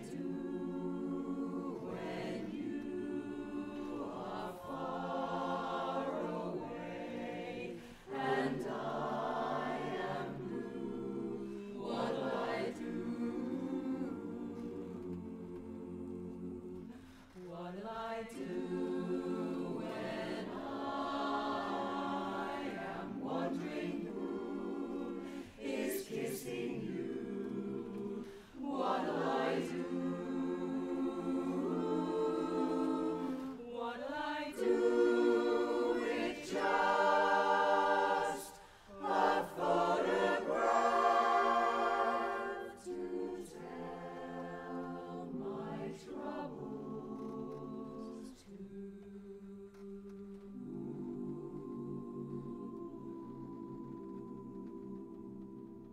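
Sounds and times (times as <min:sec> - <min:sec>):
chorus singing a cappella: 0:00.0 - 0:55.9.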